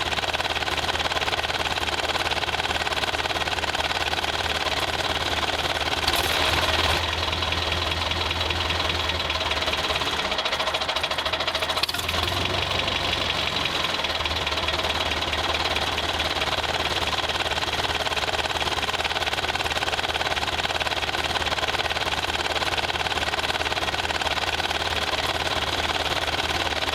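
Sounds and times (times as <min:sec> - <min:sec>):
motor running with fast knocking: 0:00.0 - 0:26.9.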